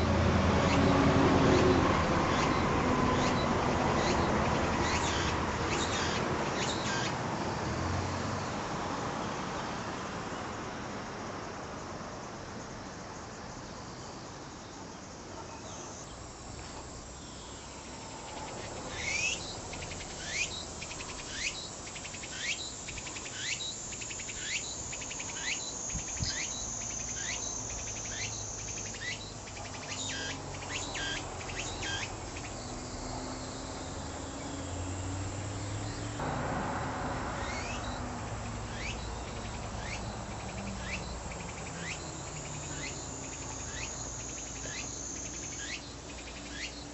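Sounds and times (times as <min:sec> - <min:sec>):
cicada singing short rising calls: 0:00.0 - 0:46.9
high insect hiss: 0:00.0 - 0:46.9.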